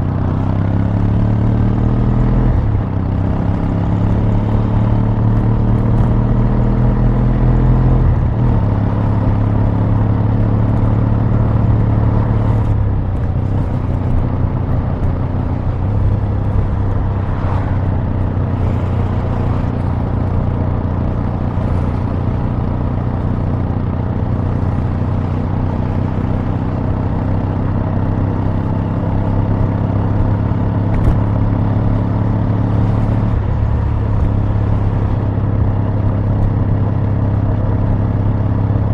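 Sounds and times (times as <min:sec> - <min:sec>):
motorcycle engine exhaust running: 0:02.1 - 0:38.9.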